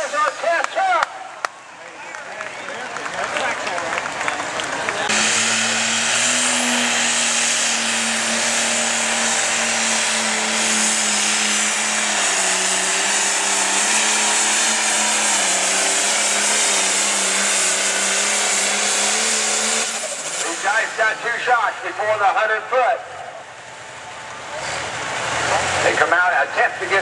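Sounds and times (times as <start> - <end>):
diesel tractor engine under load: 2.5 - 27.0.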